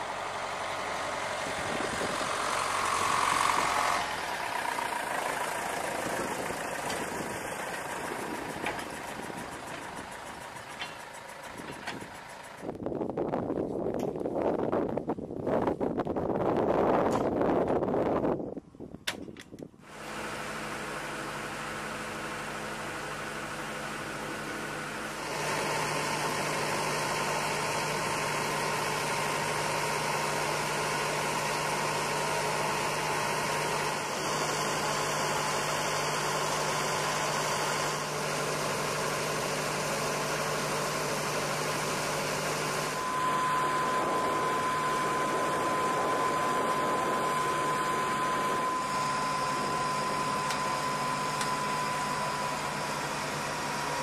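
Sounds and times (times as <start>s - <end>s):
generator engine humming and whining: 0.0s - 54.0s.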